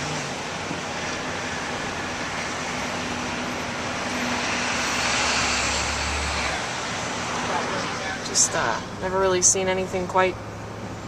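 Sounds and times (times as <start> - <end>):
car road and wind noise: 0.0 - 11.0.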